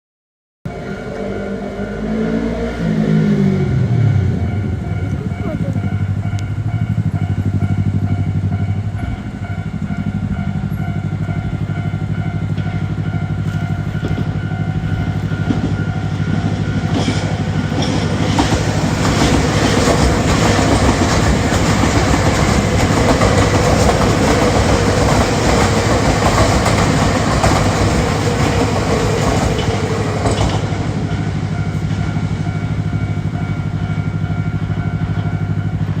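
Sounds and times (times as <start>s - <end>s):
train wheels clattering on rails: 3.2s - 36.0s.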